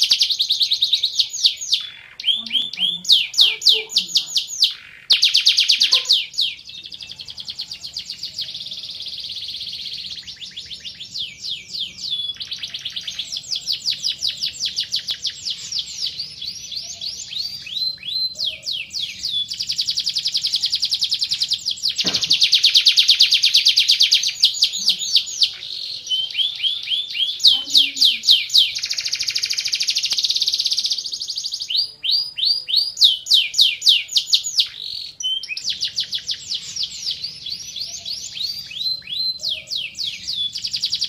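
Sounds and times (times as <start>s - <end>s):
canary singing fast trills: 0.0s - 41.0s.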